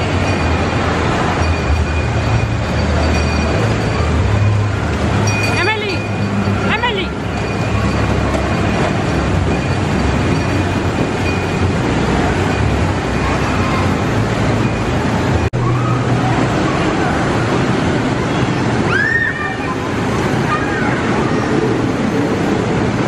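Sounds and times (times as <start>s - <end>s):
crowd hubbub: 0.0s - 23.0s
electric kiddie rides running: 0.0s - 23.0s.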